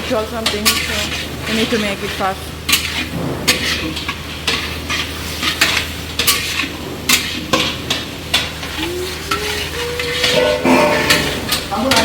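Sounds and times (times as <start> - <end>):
oil frying sizzle: 0.0 - 12.0
spatula scraping a pan: 0.0 - 12.0.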